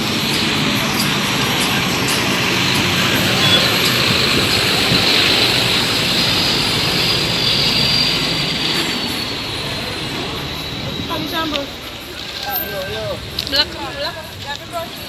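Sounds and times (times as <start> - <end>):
high-pitched whine: 0.0 - 15.0
street noise: 0.0 - 15.0.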